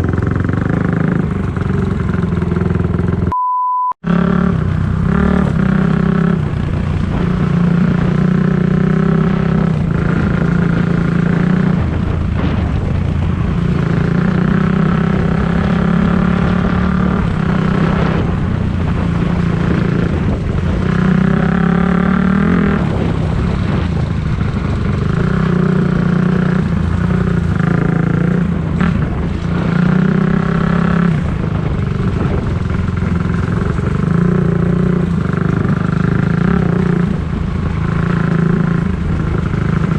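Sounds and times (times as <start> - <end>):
dirt bike engine revving: 0.0 - 3.3, 4.0 - 39.9.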